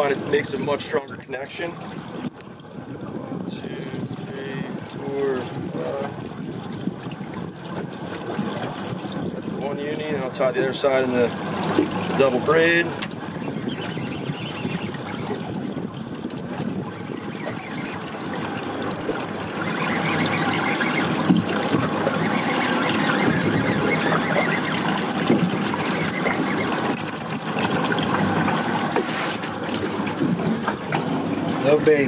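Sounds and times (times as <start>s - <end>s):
water sloshing against boat hull: 0.0s - 32.0s.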